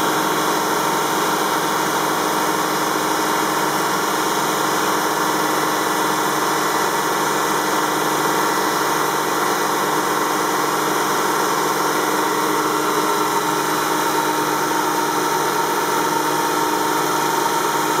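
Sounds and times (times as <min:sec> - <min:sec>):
stone saw machine hum: 0:00.0 - 0:18.0.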